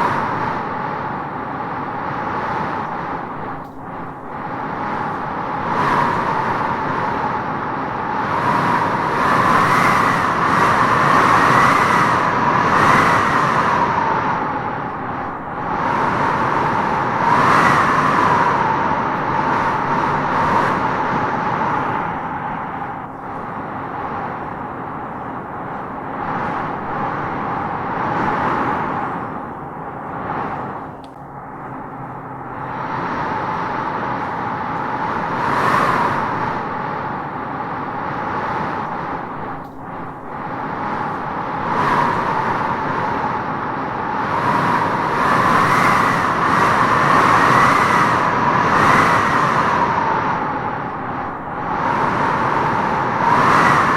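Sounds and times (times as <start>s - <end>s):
strong wind gusting through trees: 0.0s - 53.9s.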